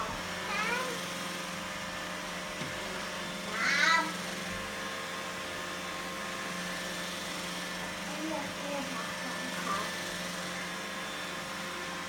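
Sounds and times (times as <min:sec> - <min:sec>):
robot vacuum humming: 0:00.0 - 0:12.0.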